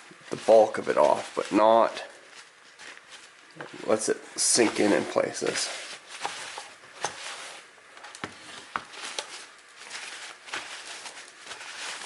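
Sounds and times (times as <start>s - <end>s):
paper towel rustling: 0.0s - 12.0s.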